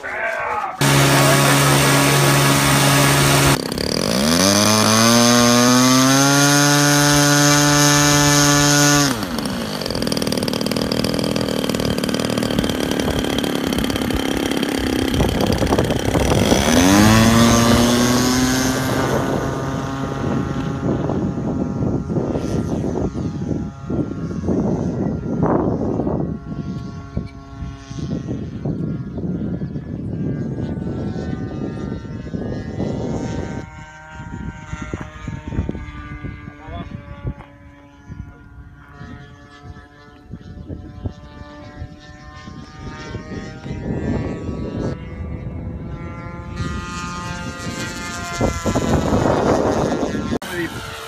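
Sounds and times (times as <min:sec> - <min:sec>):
model airplane motors running: 0:00.1 - 0:51.0.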